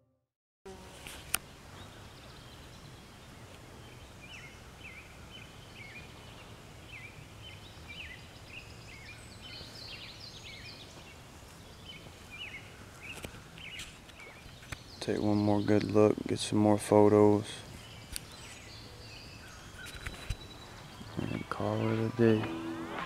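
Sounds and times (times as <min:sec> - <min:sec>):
low steady background noise: 0:00.7 - 0:23.0
birds chirping: 0:01.2 - 0:23.0.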